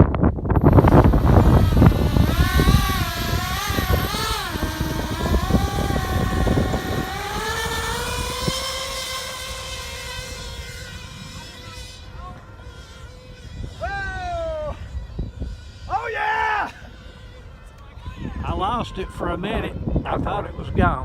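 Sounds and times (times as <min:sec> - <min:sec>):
electric ducted fans whining: 0:00.0 - 0:21.0
wind buffeting microphone: 0:00.0 - 0:21.0.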